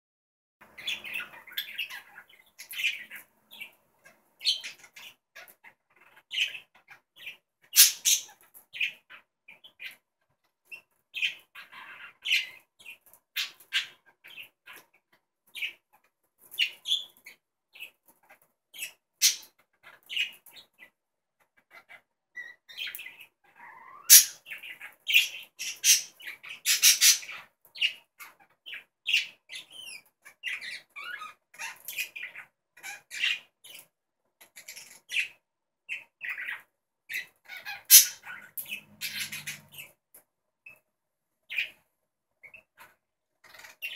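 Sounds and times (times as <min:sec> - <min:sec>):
budgerigars chirping and chattering: 0:00.7 - 0:10.0, 0:10.7 - 0:21.0, 0:21.6 - 0:40.0, 0:41.5 - 0:41.8, 0:42.4 - 0:43.9.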